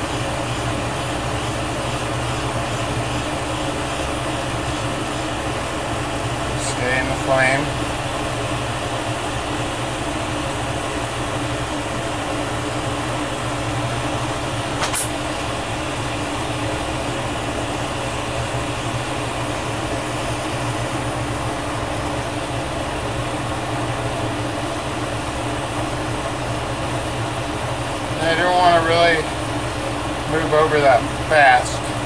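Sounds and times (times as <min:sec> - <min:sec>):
torch flame rushing: 0:00.0 - 0:32.0.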